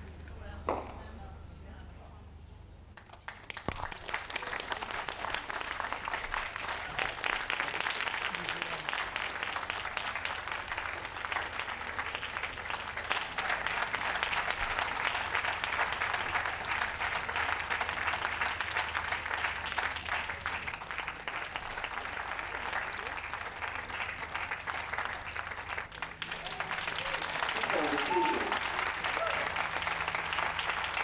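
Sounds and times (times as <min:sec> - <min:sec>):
crowd applauding: 0:03.0 - 0:31.0.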